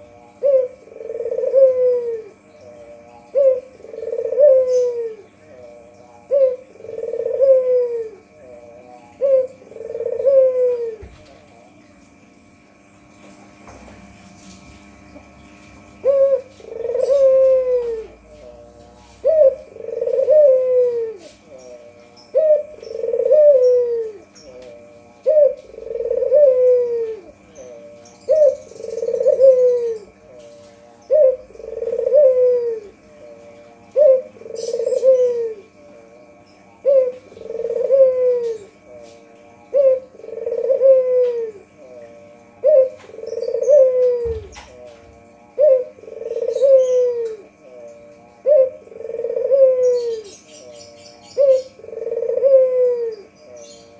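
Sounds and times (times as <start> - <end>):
dove cooing: 0.0 - 12.0, 12.6 - 53.9.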